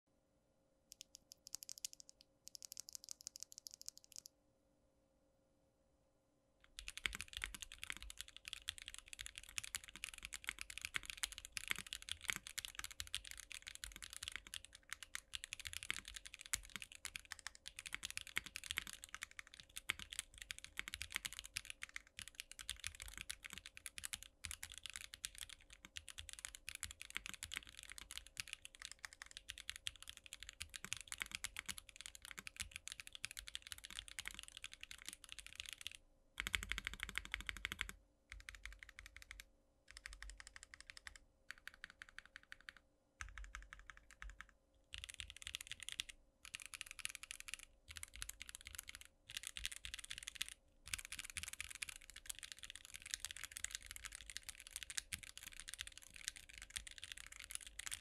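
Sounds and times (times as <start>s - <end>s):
fast typing on mechanical keyboard: 0.9s - 4.3s, 6.7s - 58.0s.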